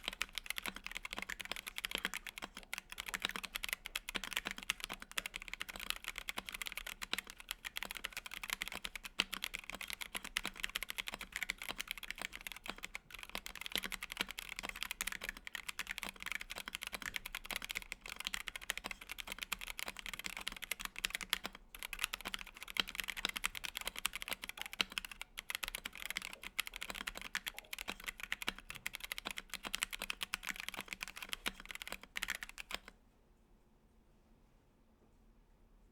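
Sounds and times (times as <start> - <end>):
fast mechanical keyboard typing: 0.0 - 32.9.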